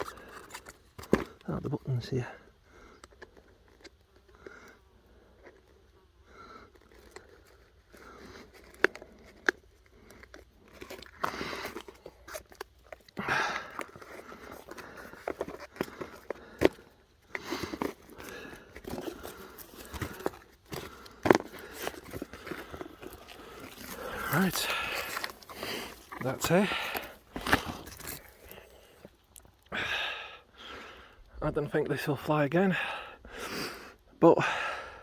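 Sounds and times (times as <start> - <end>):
crunching and rustling: 0.0 - 2.0, 2.7 - 29.7.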